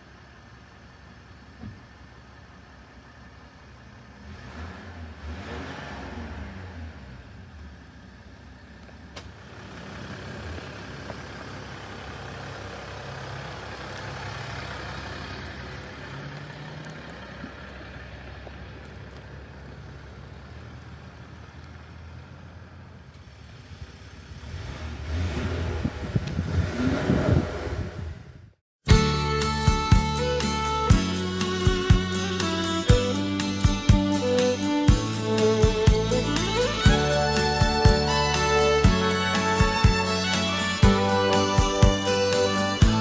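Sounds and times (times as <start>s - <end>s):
diesel engine idling: 0.0s - 4.4s, 7.2s - 24.4s, 28.9s - 43.0s.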